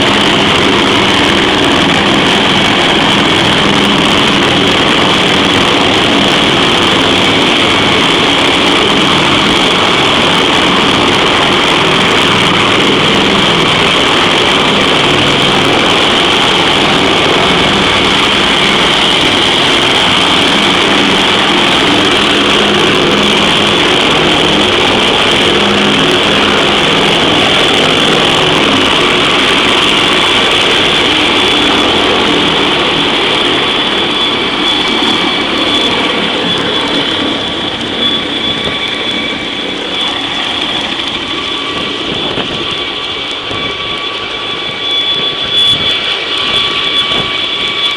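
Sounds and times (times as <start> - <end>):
helicopter engine whine: 0.0 - 47.9
helicopter rotor rumble: 0.0 - 47.9.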